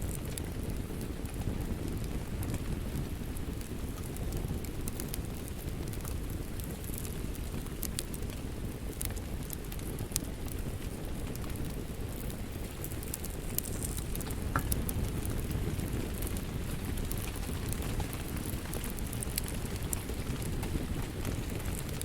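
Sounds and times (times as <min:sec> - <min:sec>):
wood fire burning and crackling: 0:00.0 - 0:22.0.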